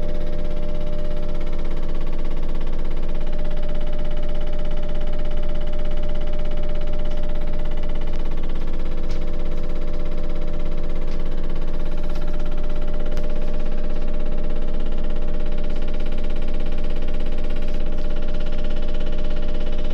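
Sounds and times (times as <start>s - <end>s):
washing machine drone: 0.0s - 19.9s.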